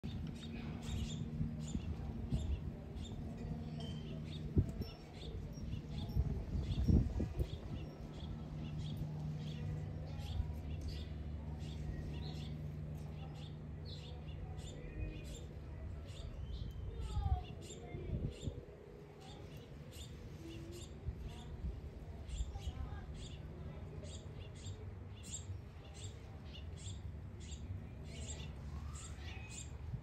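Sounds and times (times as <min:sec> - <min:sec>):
small birds chirping: 0:00.0 - 0:30.0
steady low hum: 0:00.0 - 0:30.0.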